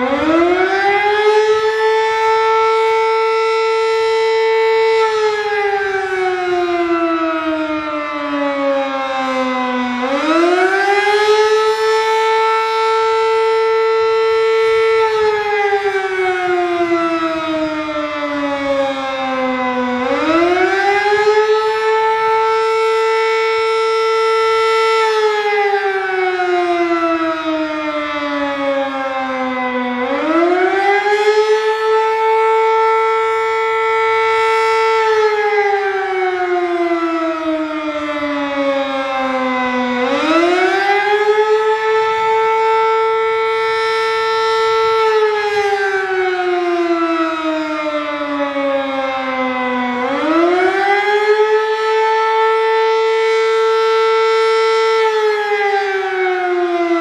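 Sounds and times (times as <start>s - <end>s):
rising and falling siren: 0.0s - 57.0s.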